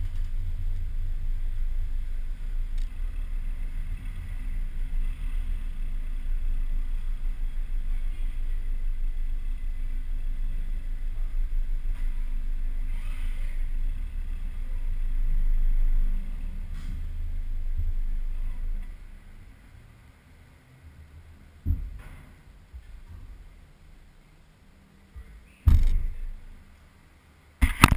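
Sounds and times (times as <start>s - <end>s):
car engine rumbling: 0.0s - 27.9s.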